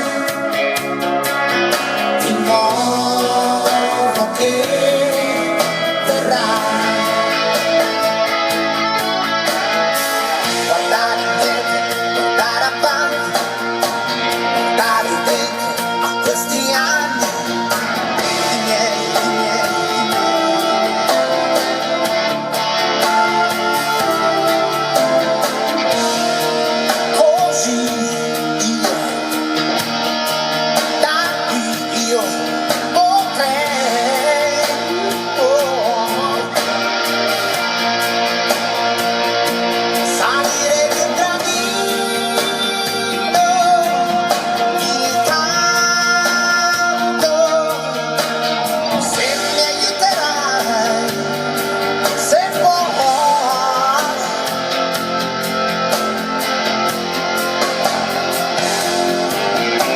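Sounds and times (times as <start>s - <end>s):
pop song over loudspeakers: 0.0s - 59.9s.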